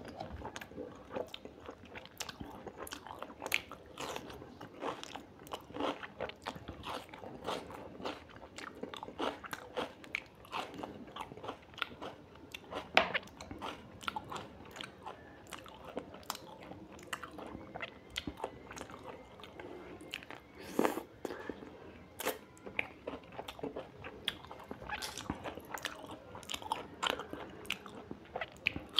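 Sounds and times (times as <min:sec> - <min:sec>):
person chewing crunchy food: 0:00.0 - 0:28.9.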